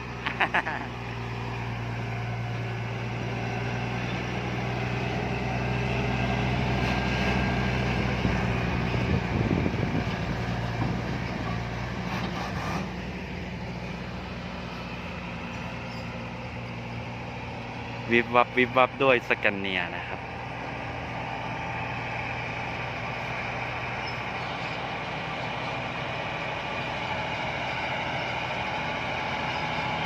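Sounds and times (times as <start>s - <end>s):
diesel truck engine droning: 0.0s - 30.0s.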